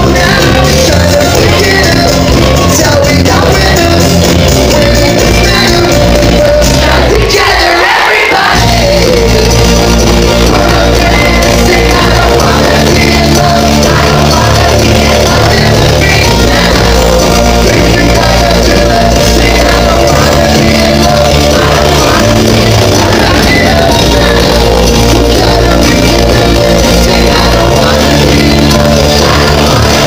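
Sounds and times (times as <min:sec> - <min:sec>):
live rock band with singing: 0:00.0 - 0:30.0.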